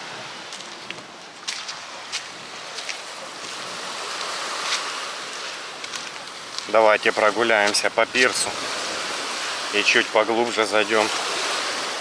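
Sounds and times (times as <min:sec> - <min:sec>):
sea surf washing onto beach: 0:00.0 - 0:12.0.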